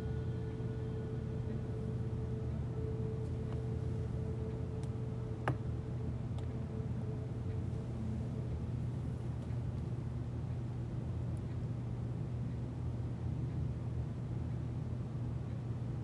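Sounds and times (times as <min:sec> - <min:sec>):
faint steady tone: 0:00.0 - 0:16.0
steady low hum: 0:00.0 - 0:16.0.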